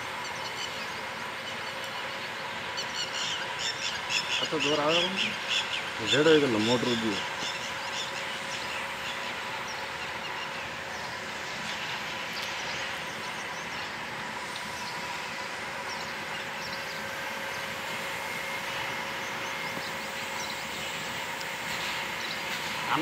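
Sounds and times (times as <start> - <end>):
machinery running hum: 0.0 - 23.0.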